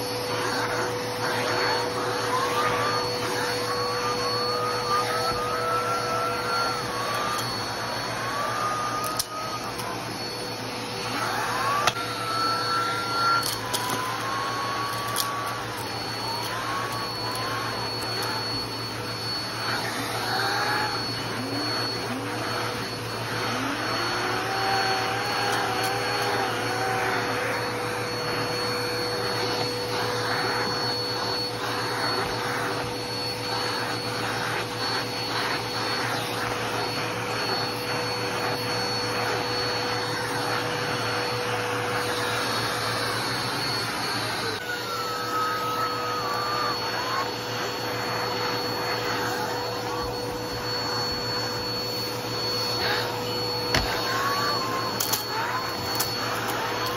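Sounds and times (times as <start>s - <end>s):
vacuum cleaner running: 0.0s - 56.9s
wavering airflow whistles: 0.0s - 56.9s.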